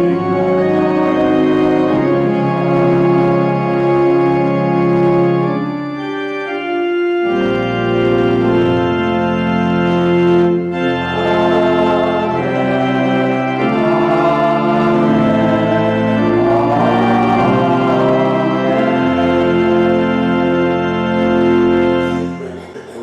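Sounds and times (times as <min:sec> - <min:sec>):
organ playing sustained chords: 0:00.0 - 0:23.0.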